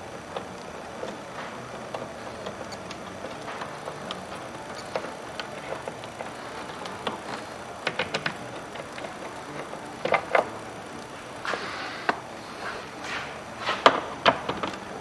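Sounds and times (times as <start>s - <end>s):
hand tools clicking and tapping: 0.0s - 15.0s.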